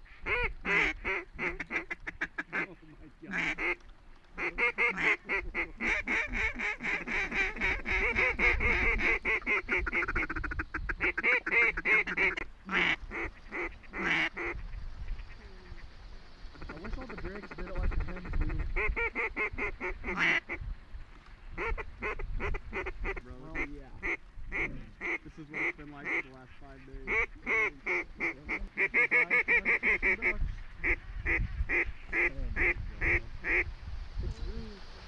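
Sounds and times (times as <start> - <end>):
ducks and geese calling: 0.0 - 33.7.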